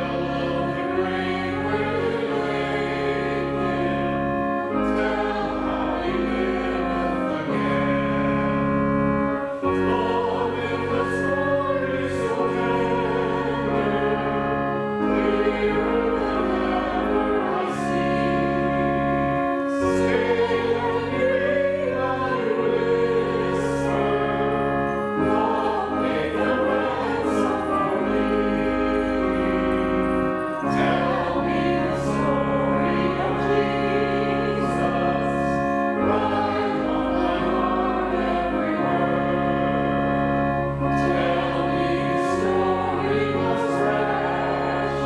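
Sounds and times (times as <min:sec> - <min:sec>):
organ playing chords: 0:00.0 - 0:45.0
voices singing a hymn: 0:00.0 - 0:45.0.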